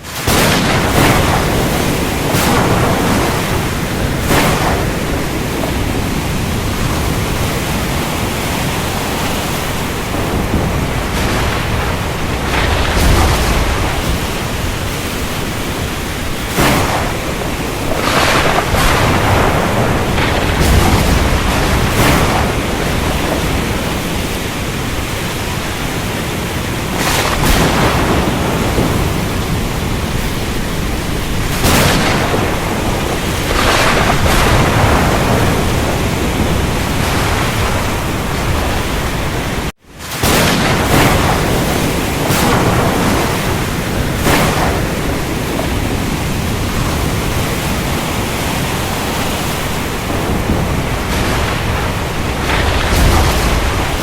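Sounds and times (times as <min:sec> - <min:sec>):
deep thunder rumbles: 0:00.0 - 0:54.0
sharp thunder cracks: 0:00.0 - 0:54.0
wind and surf roar: 0:00.0 - 0:54.0.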